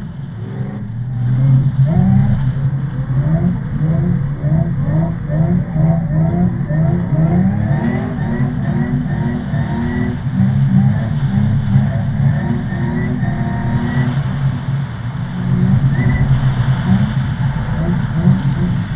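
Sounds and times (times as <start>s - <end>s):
car engine revving hard: 0.0s - 18.9s.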